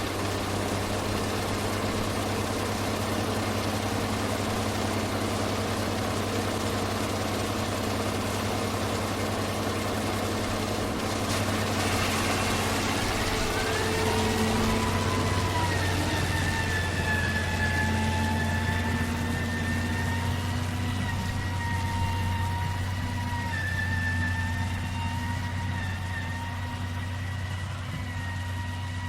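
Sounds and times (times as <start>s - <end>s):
bulldozer diesel engine humming: 0.0s - 29.0s
rising engine whine: 0.0s - 29.0s.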